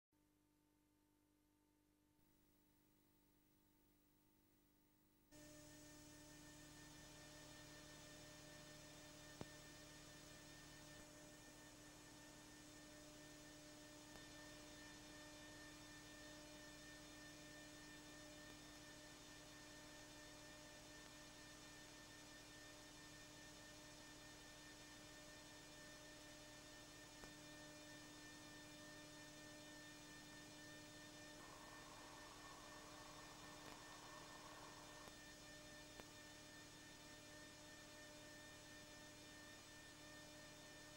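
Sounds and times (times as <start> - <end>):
faint electrical hum: 5.4 - 40.9.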